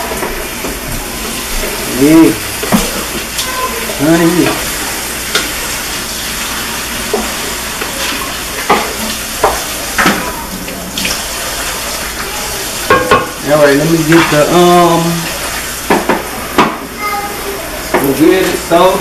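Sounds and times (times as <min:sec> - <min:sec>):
meat and vegetables sizzling: 0:00.0 - 0:19.0.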